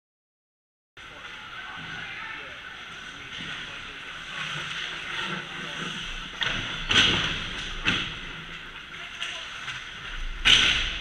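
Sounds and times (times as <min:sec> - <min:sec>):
skates scraping on ice: 0:01.1 - 0:11.0.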